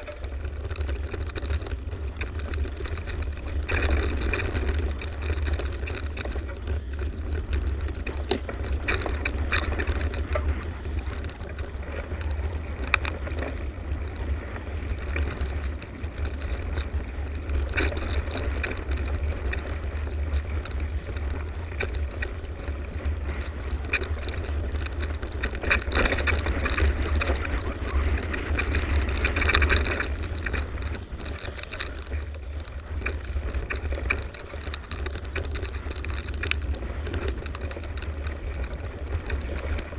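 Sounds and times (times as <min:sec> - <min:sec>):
bike rattling and knocking: 0:00.0 - 0:39.9
bike tyres crunching on dirt: 0:00.0 - 0:39.9
wind rumble on microphone: 0:00.0 - 0:39.9.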